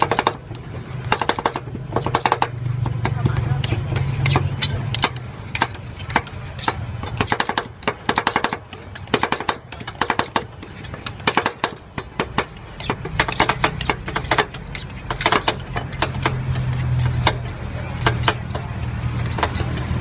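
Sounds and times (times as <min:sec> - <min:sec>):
metal spatulas tapping steel pan: 0:01.1 - 0:18.7.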